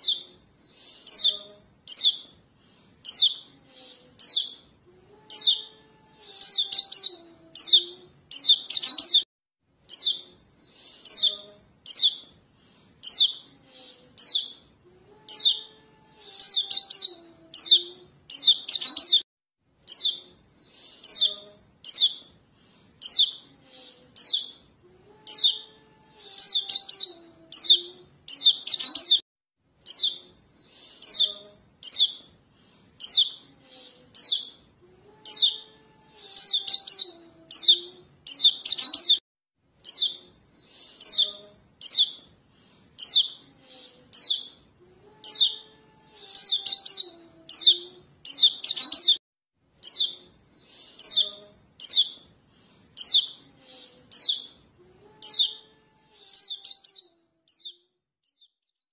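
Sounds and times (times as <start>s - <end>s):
young birds chirping: 0.0s - 2.3s, 3.0s - 4.7s, 5.3s - 9.3s, 9.9s - 12.3s, 13.0s - 14.6s, 15.3s - 19.2s, 19.8s - 22.3s, 23.0s - 29.2s, 29.8s - 32.3s, 33.0s - 34.6s, 35.3s - 39.2s, 39.8s - 42.2s, 43.0s - 44.6s, 45.2s - 49.2s, 49.8s - 54.6s, 55.2s - 58.5s.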